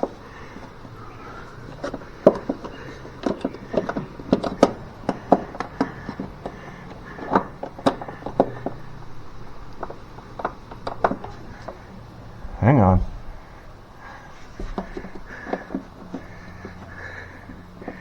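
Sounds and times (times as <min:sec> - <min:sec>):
cable knocking and clicking: 0:00.0 - 0:11.9, 0:14.5 - 0:18.0.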